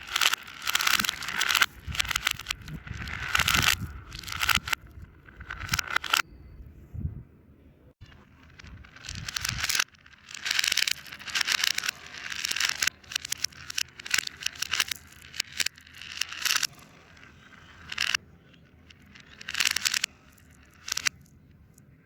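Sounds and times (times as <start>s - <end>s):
reversed crinkling handling sounds: 0.0s - 6.2s, 8.0s - 22.0s.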